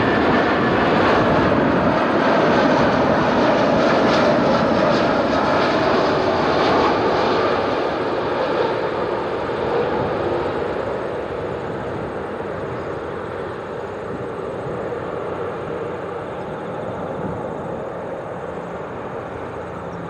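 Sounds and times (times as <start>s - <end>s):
jet engines rumbling overhead: 0.0s - 20.0s.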